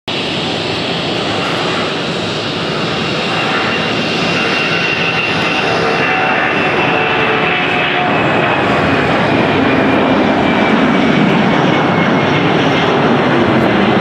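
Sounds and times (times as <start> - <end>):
jet engines at takeoff thrust: 0.1 - 14.0.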